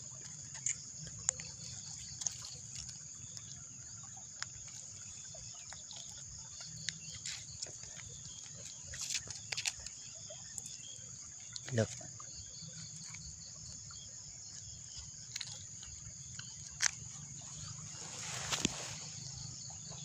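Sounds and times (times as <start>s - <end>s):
clicks and rustles in wet grass: 0.0s - 20.0s
crickets chirping: 0.0s - 20.0s.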